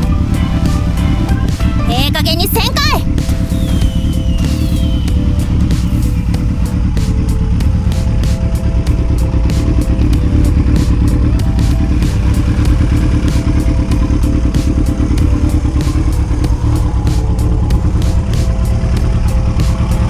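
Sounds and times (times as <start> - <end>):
background music with steady beat: 0.0 - 20.0
motorcycle engine rumbling: 0.0 - 20.0.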